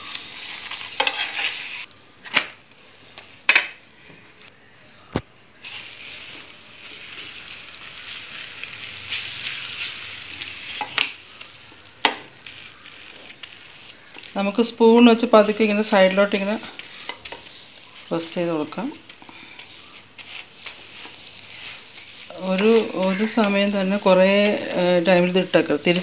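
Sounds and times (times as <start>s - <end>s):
oil sizzling in a pan: 0.0s - 1.9s, 5.6s - 26.0s.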